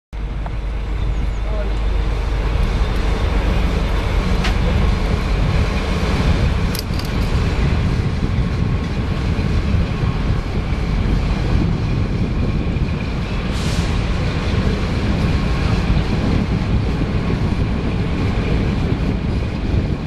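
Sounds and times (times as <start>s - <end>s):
train wheels rumbling on rails: 0.2s - 20.0s.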